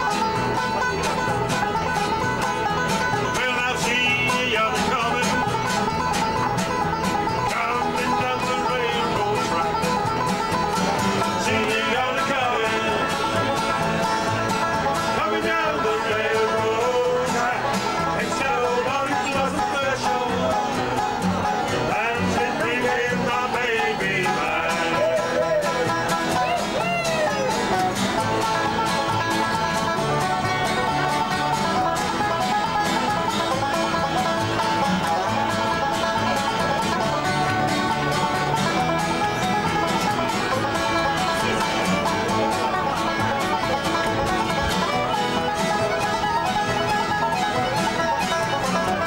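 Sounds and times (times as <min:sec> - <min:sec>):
acoustic guitar strumming: 0:00.0 - 0:49.0
banjo picking: 0:00.0 - 0:49.0.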